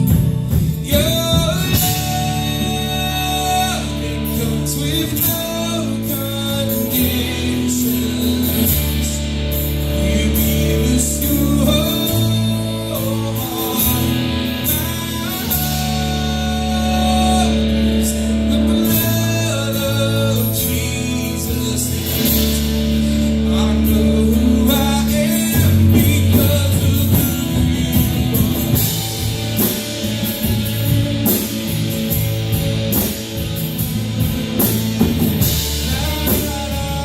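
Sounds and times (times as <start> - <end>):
person singing: 0.0 - 33.1, 33.7 - 37.0
bass chords: 0.0 - 37.0
guitar: 0.0 - 37.0
live band playing: 0.0 - 37.0.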